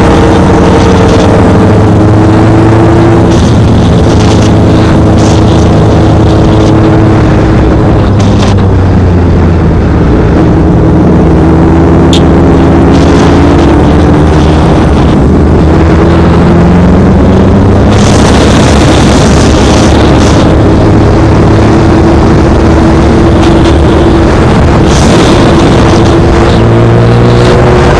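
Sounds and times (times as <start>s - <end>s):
continuous rush of noise: 0.0s - 27.9s
motorcycle engine running: 0.0s - 27.9s.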